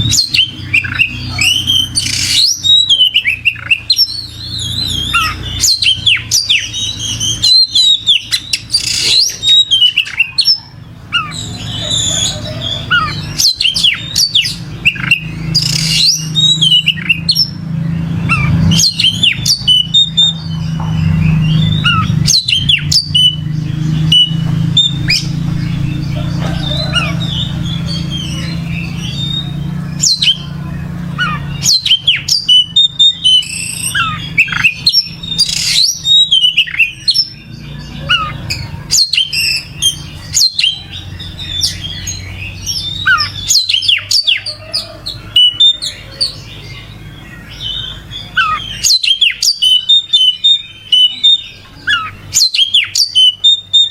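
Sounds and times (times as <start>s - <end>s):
steady low hum: 0.0s - 48.4s
bird singing whistles and chirps: 0.0s - 53.9s.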